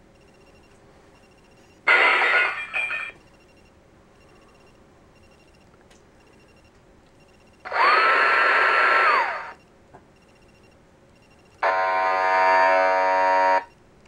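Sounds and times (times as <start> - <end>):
multi-tone buzzing: 0.2 - 6.7, 7.3 - 13.8.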